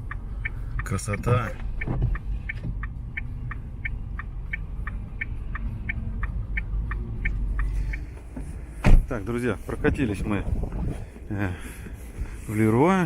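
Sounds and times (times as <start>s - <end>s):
low engine and tyre rumble: 0.0s - 13.0s
turn signal ticking: 0.0s - 13.0s.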